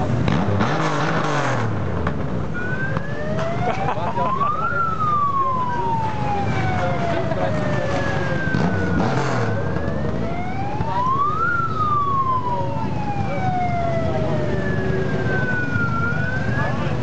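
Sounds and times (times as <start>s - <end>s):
motorcycle engines rumbling: 0.0s - 17.0s
ambulance siren wailing: 2.5s - 17.0s.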